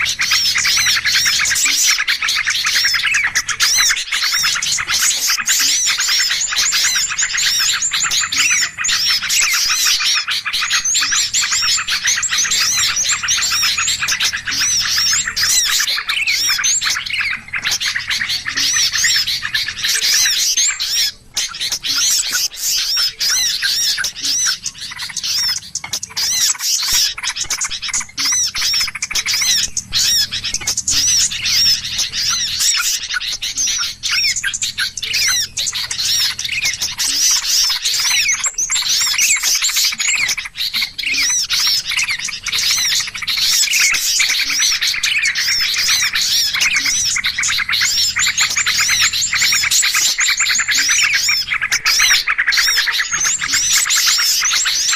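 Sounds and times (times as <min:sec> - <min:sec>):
small birds chirping and squawking: 0:00.0 - 0:54.9.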